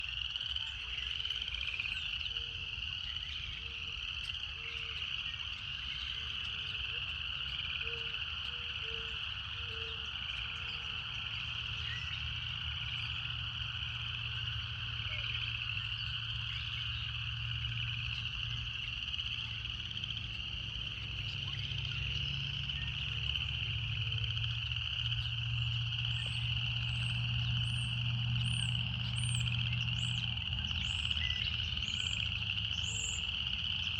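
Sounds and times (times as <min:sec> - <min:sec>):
cicadas buzzing: 0:00.0 - 0:33.9.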